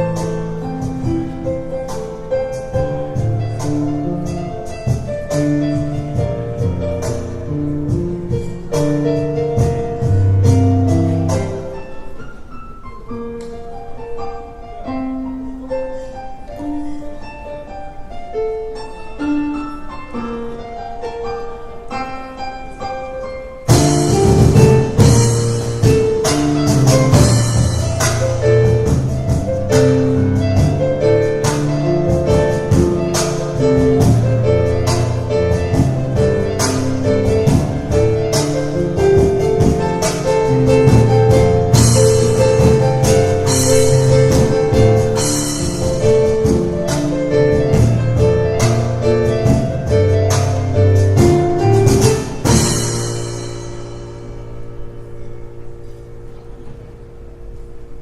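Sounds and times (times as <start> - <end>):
fast piano runs: 0.0 - 58.0.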